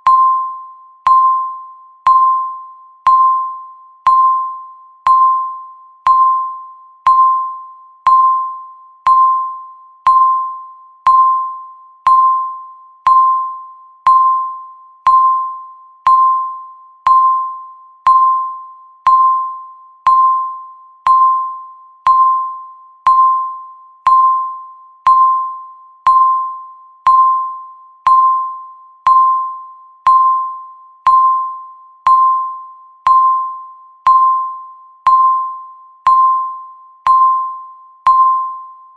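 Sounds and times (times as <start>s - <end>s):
electronic timer beeps: 0.0s - 38.9s.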